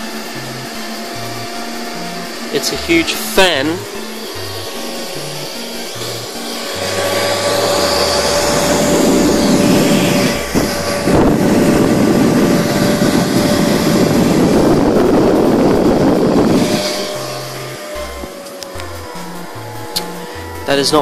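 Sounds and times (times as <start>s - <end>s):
projector cooling fan humming: 0.0s - 21.0s.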